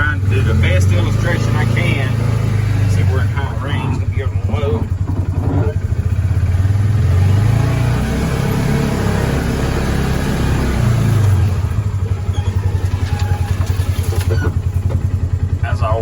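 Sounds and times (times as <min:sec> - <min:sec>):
engine revving and idling: 0:00.0 - 0:16.0.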